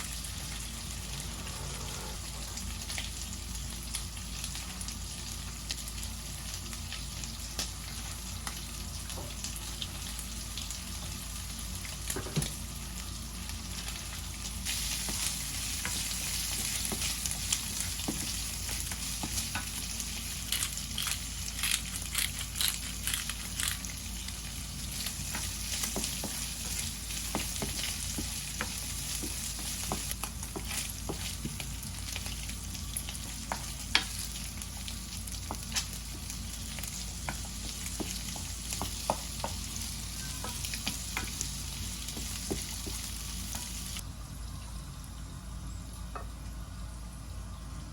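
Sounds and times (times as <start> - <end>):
food sizzling in a frying pan: 0.0 - 21.9, 22.8 - 44.1.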